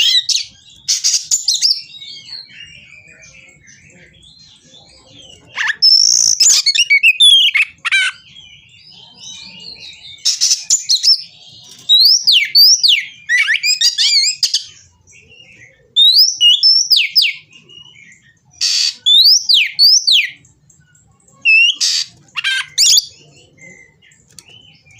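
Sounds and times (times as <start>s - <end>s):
bird singing whistled song: 0.0s - 24.9s.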